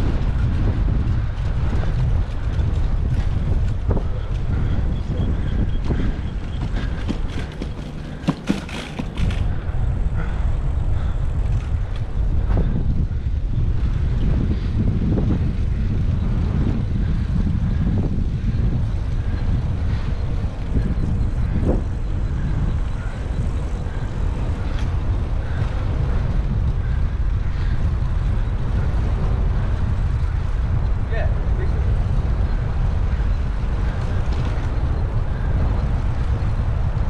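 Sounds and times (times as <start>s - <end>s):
road noise: 0.0s - 37.0s
traffic: 0.0s - 37.0s
wind buffeting microphone: 0.0s - 37.0s.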